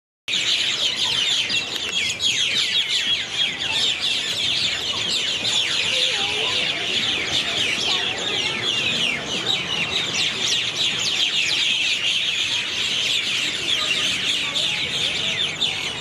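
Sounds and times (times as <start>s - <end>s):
flock of birds chirping: 0.3s - 16.0s.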